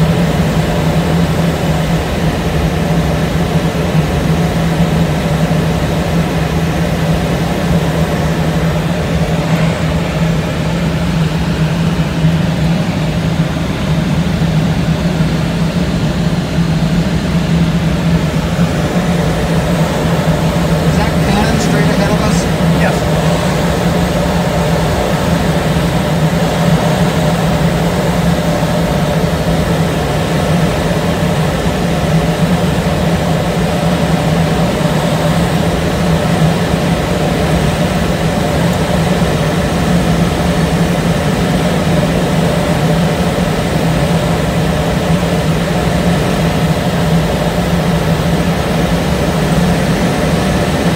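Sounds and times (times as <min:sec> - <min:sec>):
propeller plane engine droning: 0:00.0 - 0:50.9.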